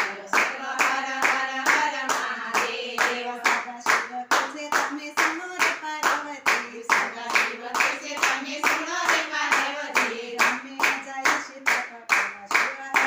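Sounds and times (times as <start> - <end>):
hands clapping: 0.0 - 13.0
women singing together: 0.0 - 13.0.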